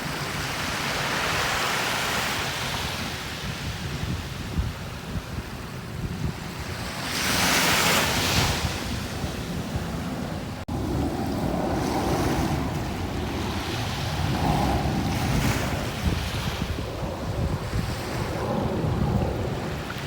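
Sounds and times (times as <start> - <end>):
sea waves washing onto a beach: 0.0 - 20.0
wind buffeting the microphone: 0.0 - 20.0.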